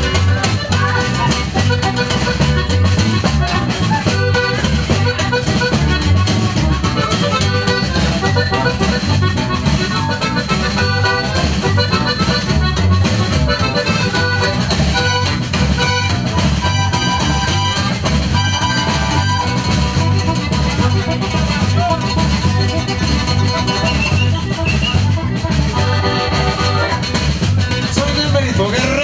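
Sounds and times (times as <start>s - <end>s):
accordion melody: 0.0s - 29.0s
bass line: 0.0s - 29.0s.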